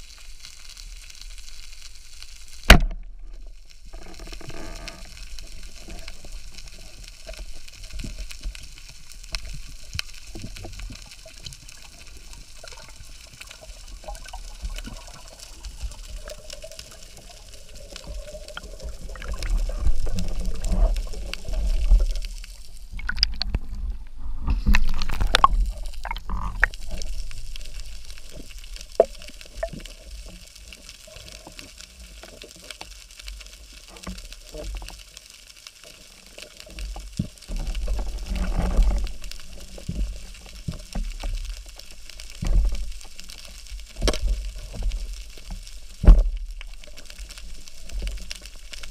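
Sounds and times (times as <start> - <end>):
underwater rumble: 0.0 - 35.2, 35.9 - 48.9
air bubbles bubbling and crackling: 0.0 - 48.9.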